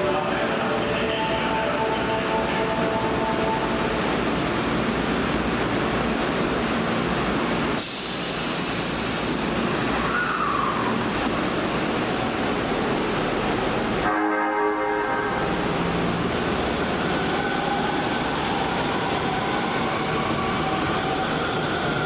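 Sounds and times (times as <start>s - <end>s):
subway train equipment hum: 0.0s - 22.0s.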